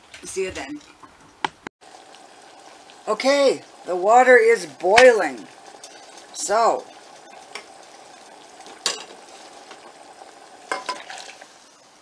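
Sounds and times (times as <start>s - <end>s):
water boiling: 0.0s - 1.2s, 1.8s - 12.0s.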